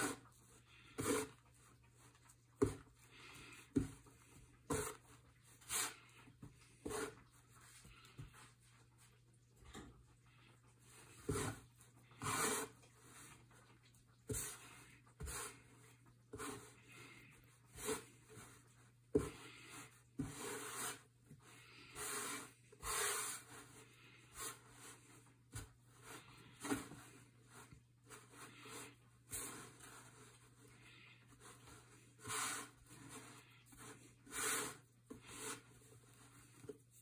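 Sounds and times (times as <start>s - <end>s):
hands scraping dough on wooden board: 0.0s - 8.8s, 11.0s - 13.4s, 14.2s - 37.0s.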